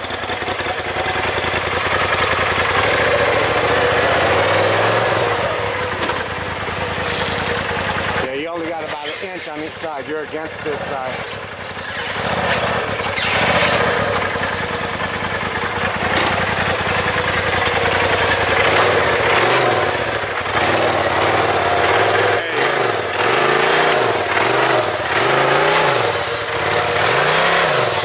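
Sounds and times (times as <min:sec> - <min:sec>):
engine running and revving: 0:00.0 - 0:28.0.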